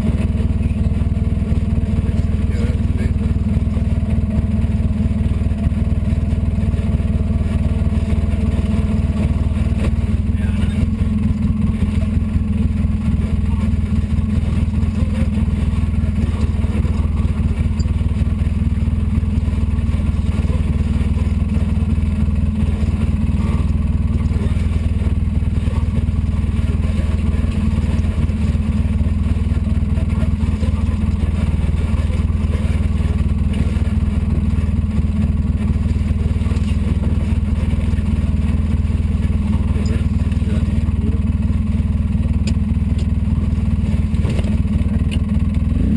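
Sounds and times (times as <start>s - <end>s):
engine running on rough trail: 0.0s - 45.9s.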